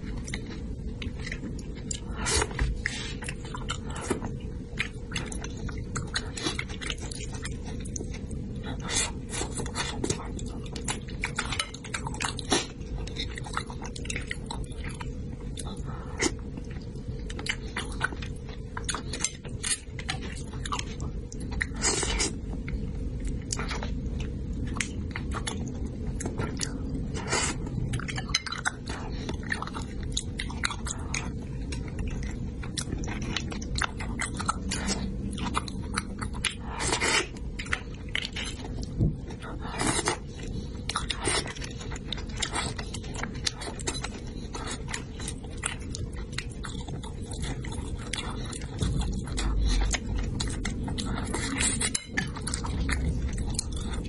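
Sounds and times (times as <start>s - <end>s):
person chewing: 0.0s - 54.0s.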